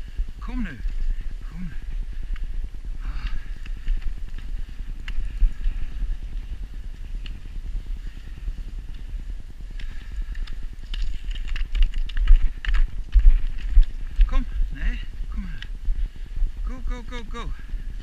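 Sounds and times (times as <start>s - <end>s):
low rumble of movement over snow: 0.0s - 18.0s.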